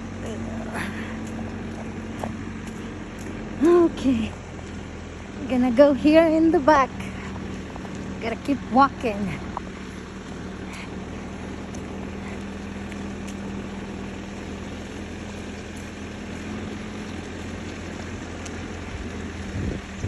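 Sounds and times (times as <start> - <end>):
backhoe engine running: 0.0 - 20.0.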